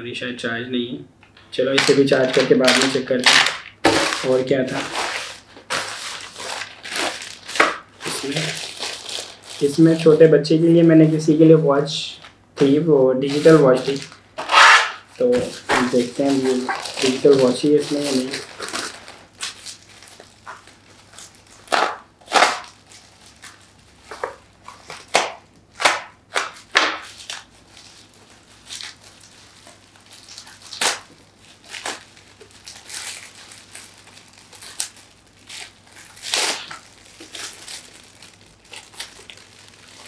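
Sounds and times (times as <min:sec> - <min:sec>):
plastic packaging crinkling: 0:01.5 - 0:40.0.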